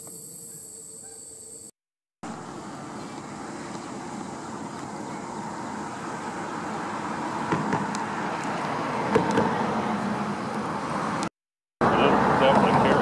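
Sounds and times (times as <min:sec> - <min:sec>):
distant road traffic: 0:02.2 - 0:13.0.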